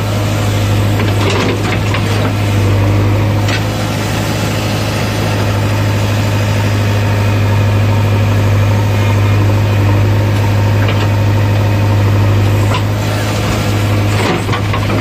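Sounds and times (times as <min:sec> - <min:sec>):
backhoe diesel engine humming: 0:00.0 - 0:15.0.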